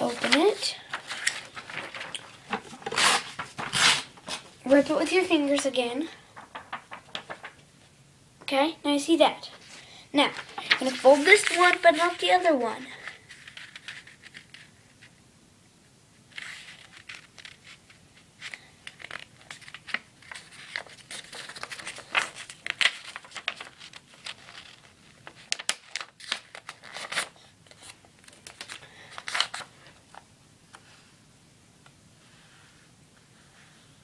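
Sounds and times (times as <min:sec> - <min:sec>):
paper crinkling while folded: 0:00.0 - 0:07.7, 0:09.5 - 0:15.1, 0:16.3 - 0:30.8.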